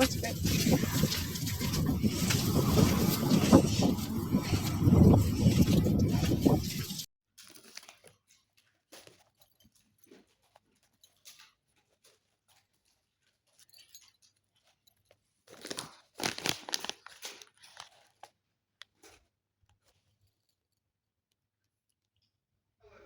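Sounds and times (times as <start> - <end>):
rustling and crinkling handling: 0.0 - 20.4.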